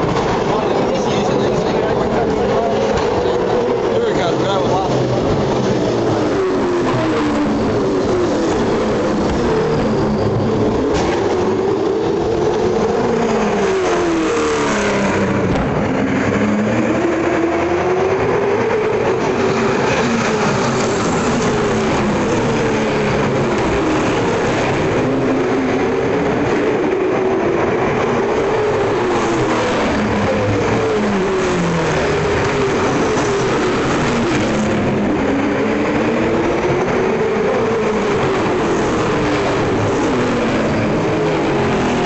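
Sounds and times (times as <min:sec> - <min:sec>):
racing car engines: 0:00.0 - 0:42.0.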